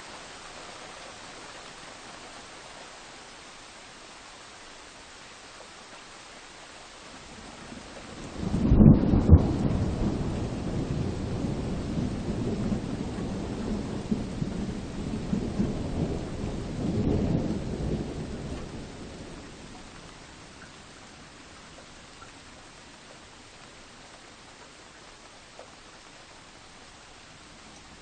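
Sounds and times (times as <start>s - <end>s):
rain hissing: 0.0s - 28.0s.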